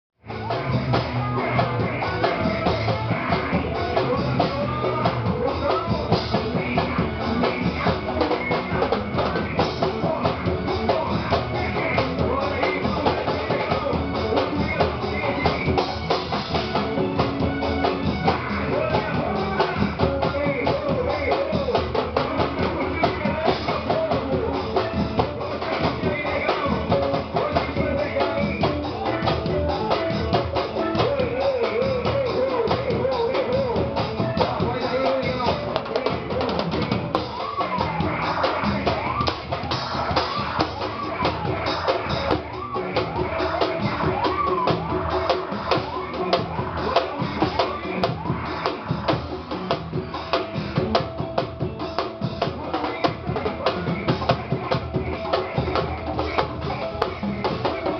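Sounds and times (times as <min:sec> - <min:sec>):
band playing: 0:00.2 - 0:57.9
drum kit: 0:00.2 - 0:57.9.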